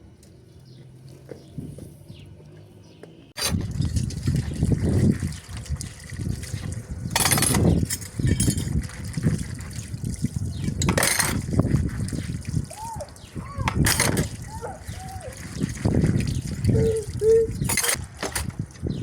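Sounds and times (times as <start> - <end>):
water splashing and pouring: 3.4 - 18.7.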